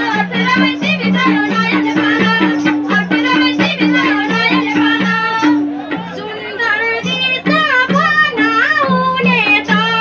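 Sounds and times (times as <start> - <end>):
rattling percussion: 0.0 - 10.0
woman singing folk song: 0.0 - 10.0.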